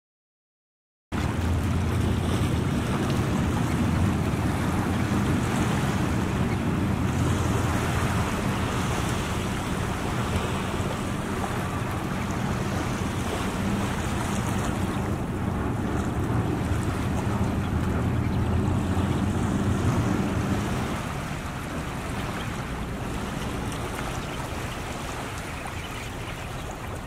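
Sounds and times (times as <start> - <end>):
ocean surf on sandy beach: 1.1 - 27.0.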